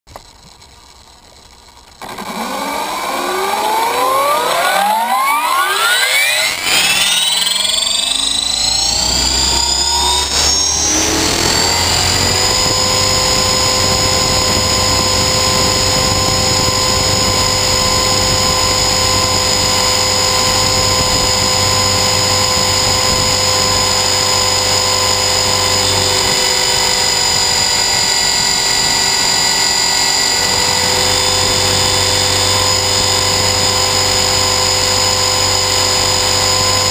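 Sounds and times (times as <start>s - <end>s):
rc helicopter motor whine: 0.1s - 36.9s.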